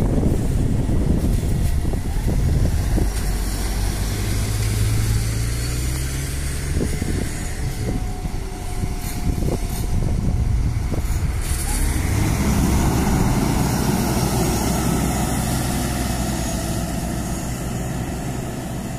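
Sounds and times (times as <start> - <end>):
bus engine accelerating: 0.0 - 18.9.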